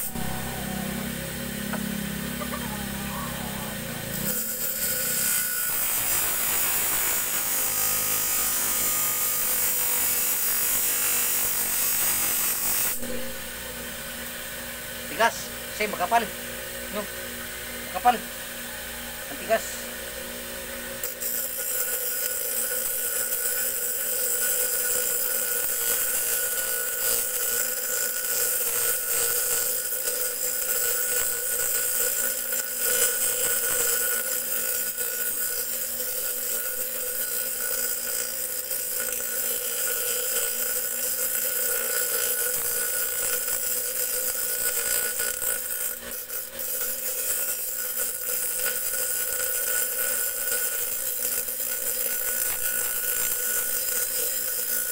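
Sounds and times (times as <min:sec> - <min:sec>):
grinder disc whine: 0:00.0 - 0:54.9
metal blade grinding on abrasive disc: 0:00.0 - 0:54.9.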